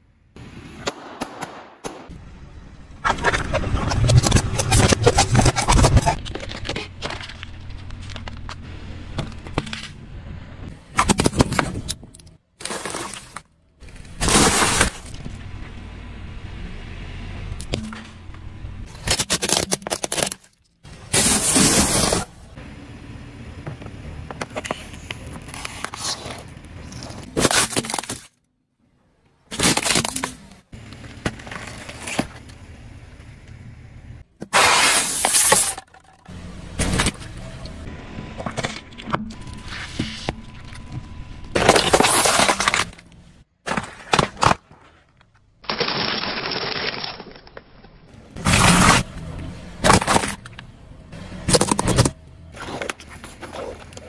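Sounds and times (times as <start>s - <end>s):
car tyre crushing objects: 0.4s - 22.7s, 23.6s - 28.6s, 29.3s - 54.0s.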